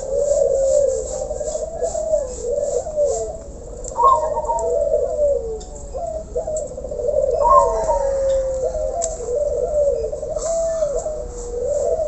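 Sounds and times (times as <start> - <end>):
doves cooing: 0.0 - 12.0.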